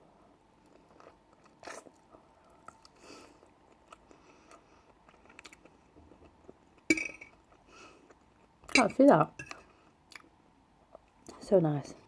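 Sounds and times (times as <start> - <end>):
wet chewing sounds: 0.6 - 8.6, 9.4 - 11.4.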